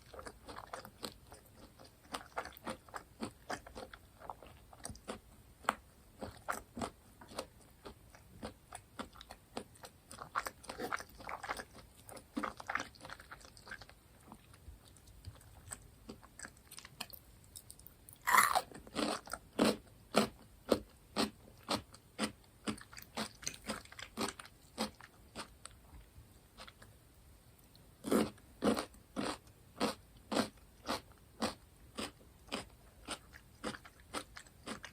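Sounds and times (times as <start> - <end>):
chewing crunchy fried food: 0.0 - 27.0, 27.6 - 34.9.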